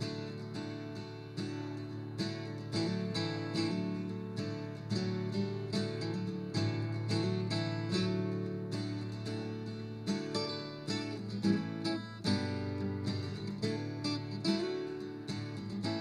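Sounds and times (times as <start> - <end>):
picked acoustic guitar: 0.0 - 16.0.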